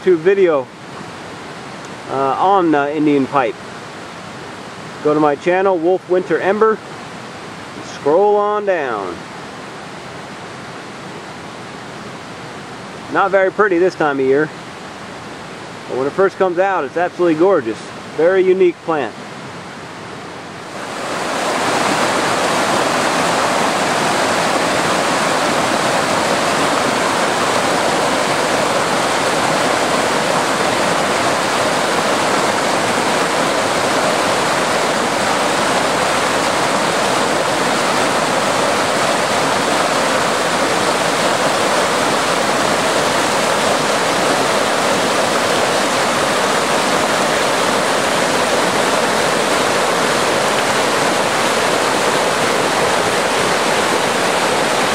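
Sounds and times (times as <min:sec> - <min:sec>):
stream rushing: 0:00.0 - 0:54.9.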